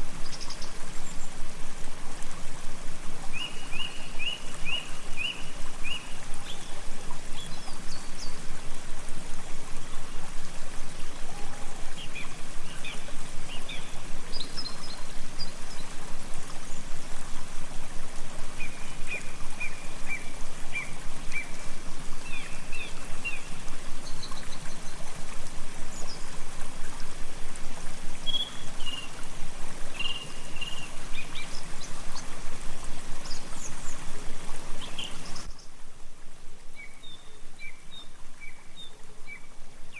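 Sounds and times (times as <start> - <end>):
rushing and trickling water: 0.0 - 39.9.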